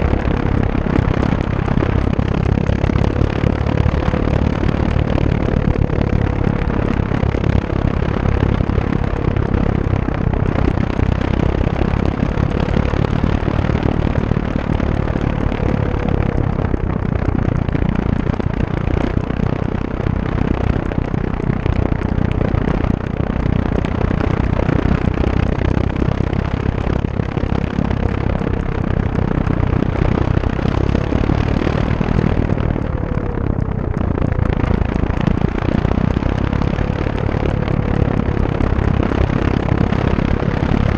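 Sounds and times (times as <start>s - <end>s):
electric motor and propeller hum: 0.0s - 40.9s
heavy wind rush on microphone: 0.0s - 40.9s.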